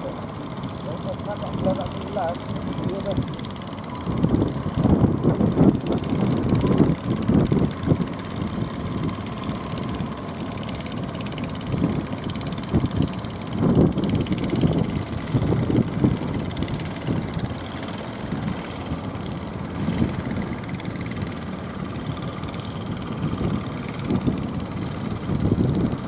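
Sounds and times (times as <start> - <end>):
boat engine running: 0.0 - 26.0
wind buffeting microphone: 1.4 - 26.0.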